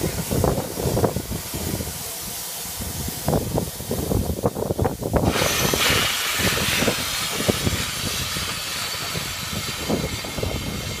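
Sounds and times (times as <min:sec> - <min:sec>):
steam locomotive venting steam: 0:00.0 - 0:11.0.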